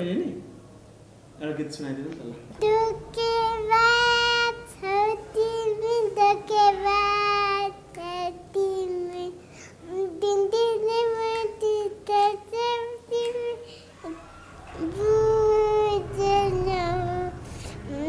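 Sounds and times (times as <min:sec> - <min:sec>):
boy singing unaccompanied: 0:02.5 - 0:18.0.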